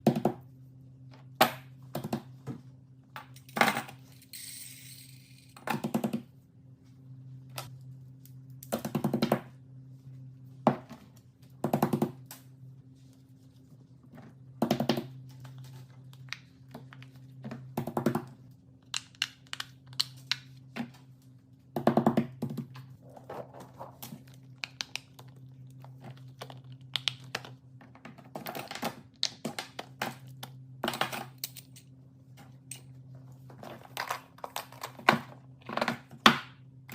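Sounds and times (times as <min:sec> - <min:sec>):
low electrical hum: 0:00.0 - 0:36.9.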